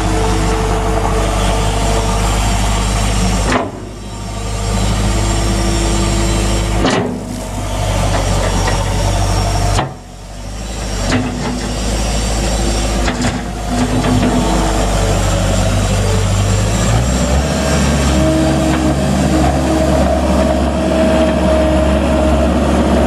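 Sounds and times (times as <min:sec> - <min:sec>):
diesel engine under hydraulic load: 0:00.0 - 0:23.0.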